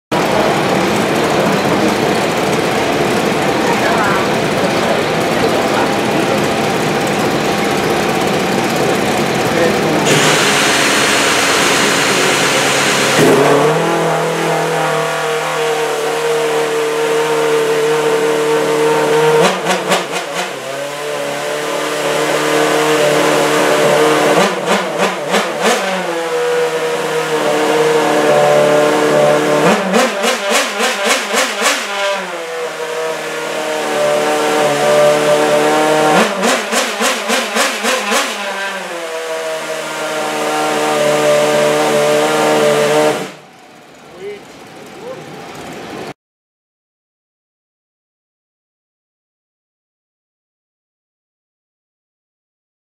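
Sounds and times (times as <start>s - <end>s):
racing car engine idling: 0.1s - 46.1s
engine throttle blips: 0.1s - 46.2s.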